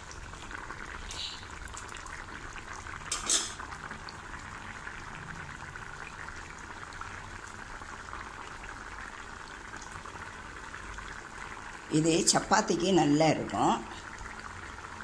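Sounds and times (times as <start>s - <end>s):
curry bubbles popping: 0.0s - 15.0s.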